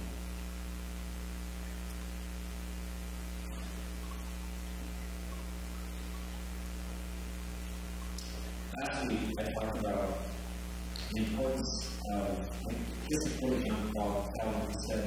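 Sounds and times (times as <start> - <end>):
constant hiss: 0.0 - 15.0
electrical mains hum: 0.0 - 15.0.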